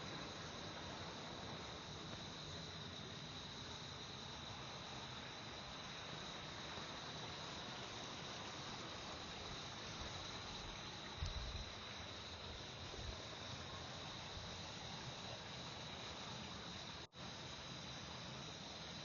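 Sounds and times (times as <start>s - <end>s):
insects chirring: 0.0s - 19.0s
soft outdoor hiss: 0.0s - 19.0s.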